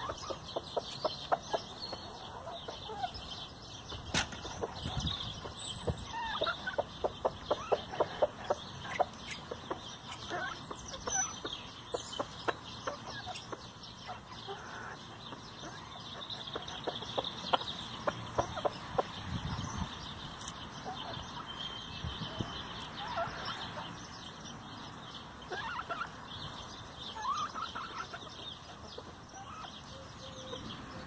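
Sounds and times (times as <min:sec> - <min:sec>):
chickens clucking: 0:00.0 - 0:24.4, 0:25.2 - 0:31.0.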